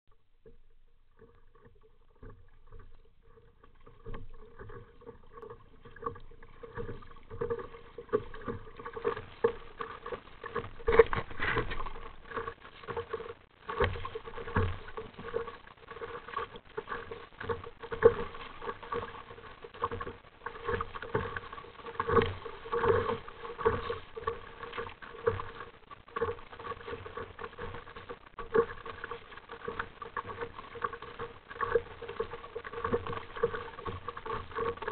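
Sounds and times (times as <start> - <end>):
water splashing against kayak hull: 0.1 - 34.9.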